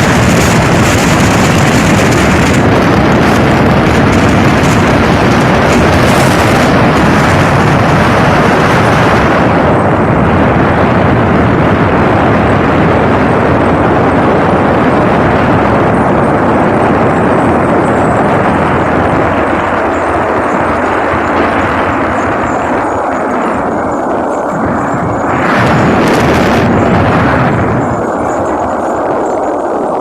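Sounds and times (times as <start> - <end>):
motorboat engine: 0.0 - 30.0
wind and water rushing: 0.0 - 30.0.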